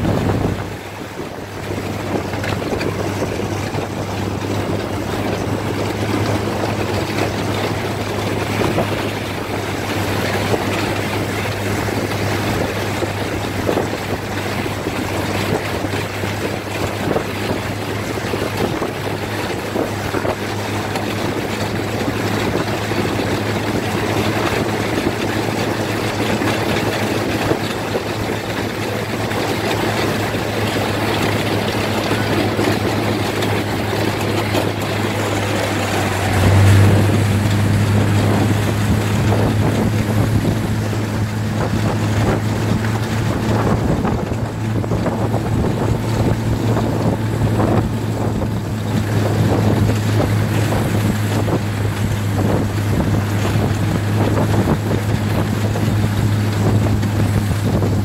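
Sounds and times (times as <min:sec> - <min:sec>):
snowmobile engine running: 0:00.0 - 0:58.0
track snow and wind rushing: 0:00.0 - 0:58.0.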